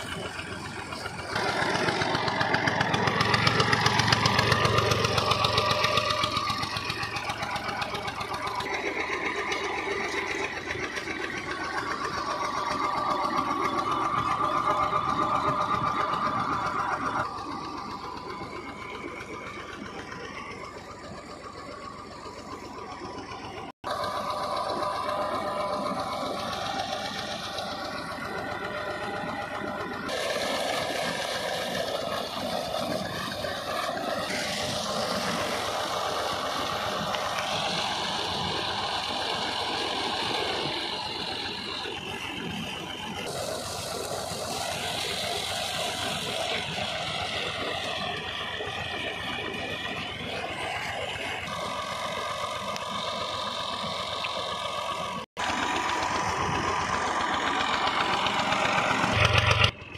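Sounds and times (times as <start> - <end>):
tractor diesel engine running: 0.0 - 59.9
water gushing from pipe: 0.0 - 59.9.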